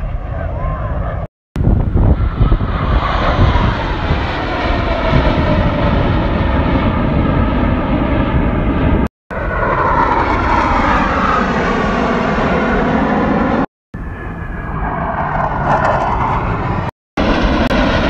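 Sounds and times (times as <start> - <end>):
jet fighters flying past: 0.0 - 18.0.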